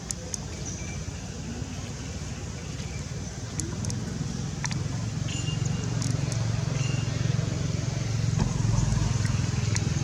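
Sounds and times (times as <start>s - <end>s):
low engine-like rumble: 0.0s - 10.0s.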